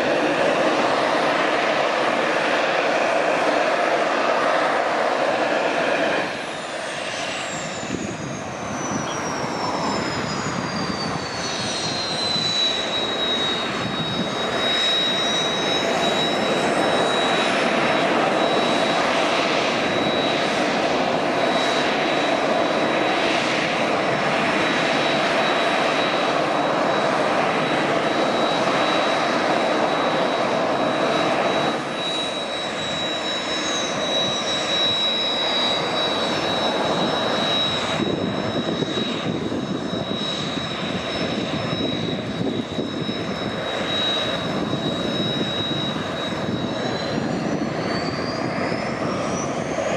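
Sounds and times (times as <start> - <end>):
jet engine whining: 0.0 - 49.9.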